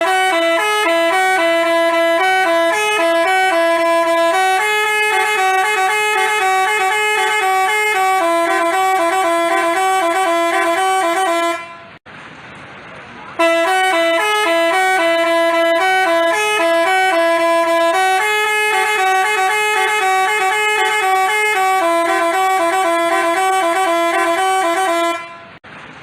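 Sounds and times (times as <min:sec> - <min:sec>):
musical horn playing a tune: 0:00.0 - 0:12.0, 0:13.4 - 0:25.6.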